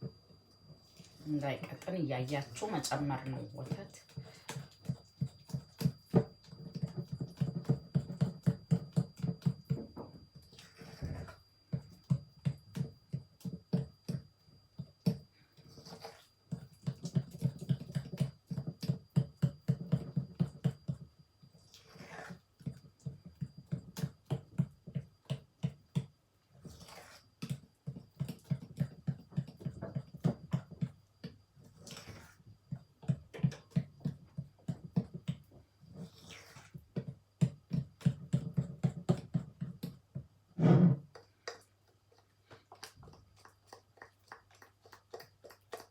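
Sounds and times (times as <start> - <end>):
batter beaten in a bowl: 0.0 - 45.9.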